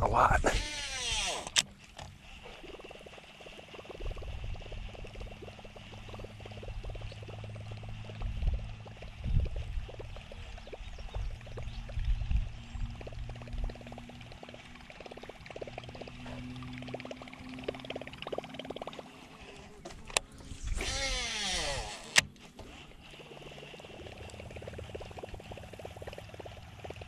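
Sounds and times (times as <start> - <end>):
fishing reel winding hum: 0.5 - 27.0.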